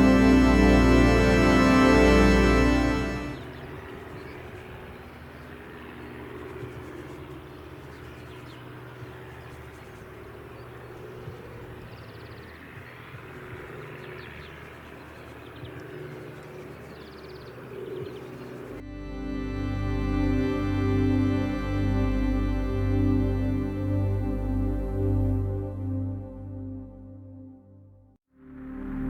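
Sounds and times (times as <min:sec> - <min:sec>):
aircraft flying over: 0:00.0 - 0:27.4.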